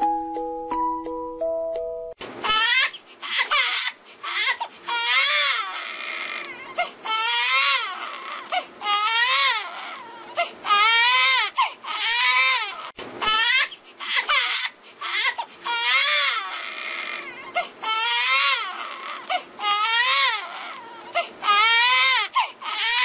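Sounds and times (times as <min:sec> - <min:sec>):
infant crying: 0:02.5 - 0:23.0.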